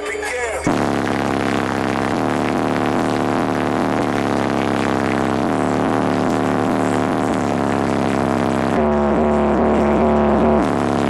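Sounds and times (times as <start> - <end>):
deep hip-hop bass from car stereo: 0.0 - 11.0.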